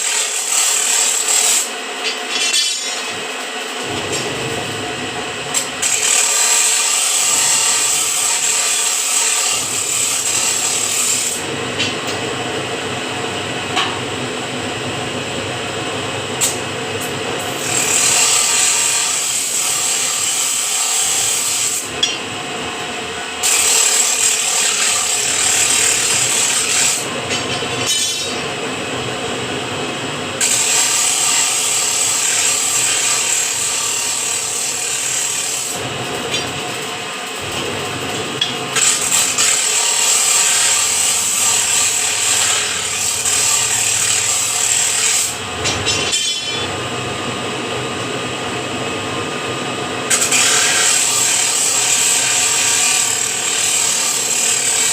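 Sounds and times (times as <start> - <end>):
power machine sawing steel bar: 0.0 - 12.2, 17.4 - 22.4, 23.0 - 28.7, 30.4 - 47.0, 49.6 - 54.9.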